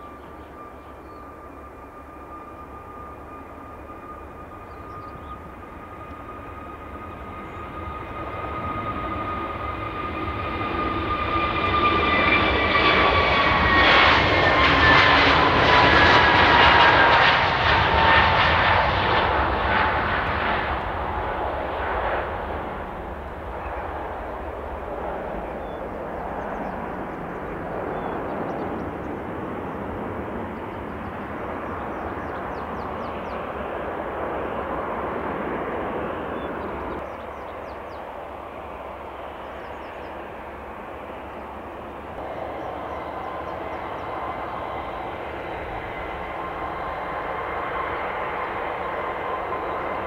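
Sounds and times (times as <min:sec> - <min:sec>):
jet engines at takeoff thrust: 0:00.0 - 0:50.0.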